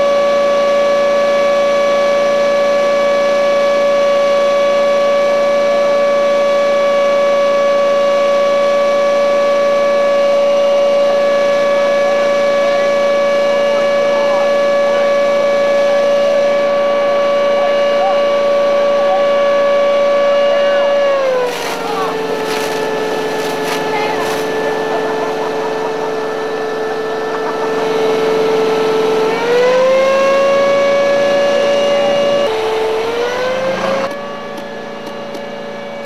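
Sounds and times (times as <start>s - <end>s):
small engine whining: 0.0s - 36.0s.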